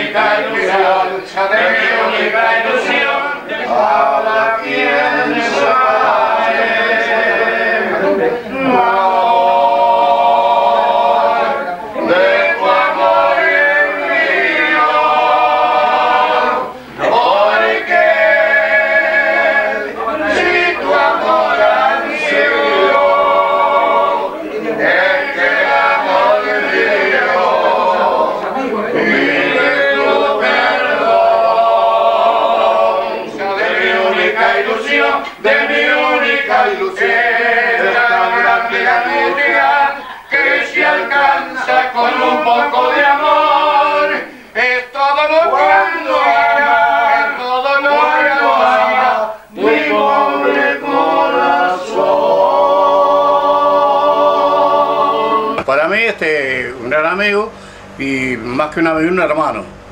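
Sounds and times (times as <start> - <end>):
men singing in chorus: 0.0 - 55.6.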